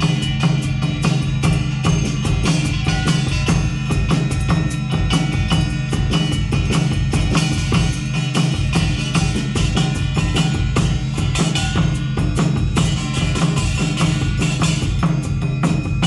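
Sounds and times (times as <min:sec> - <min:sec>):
band music: 0:00.0 - 0:16.0
drum kit beat: 0:00.0 - 0:16.0.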